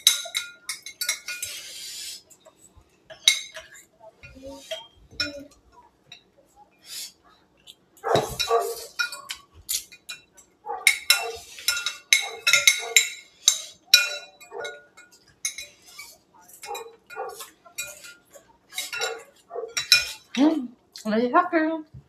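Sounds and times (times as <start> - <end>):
cutlery clinking on plates: 0.0 - 6.4, 8.0 - 20.6.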